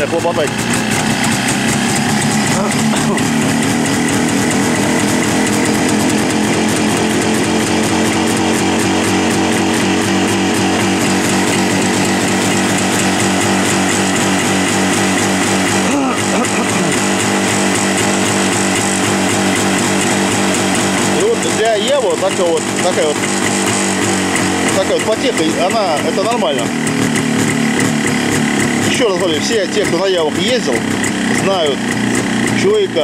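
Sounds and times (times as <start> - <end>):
motorcycle engine idling unevenly: 0.0 - 33.0.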